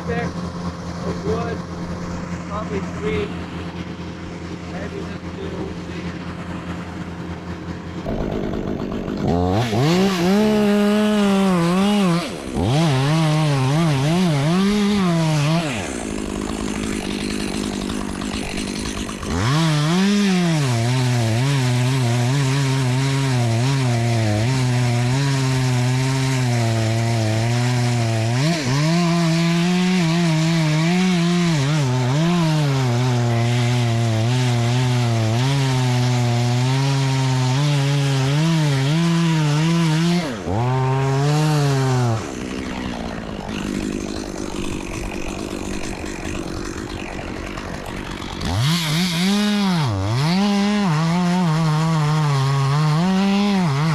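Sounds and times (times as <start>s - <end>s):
chainsaw revving and cutting: 0.0s - 53.9s.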